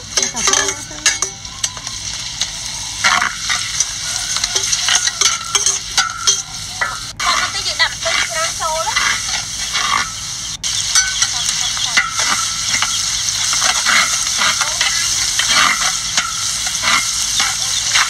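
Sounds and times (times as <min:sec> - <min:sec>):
shallots sizzling in oil: 0:00.0 - 0:18.0
metal spatula scraping wok: 0:00.1 - 0:18.0.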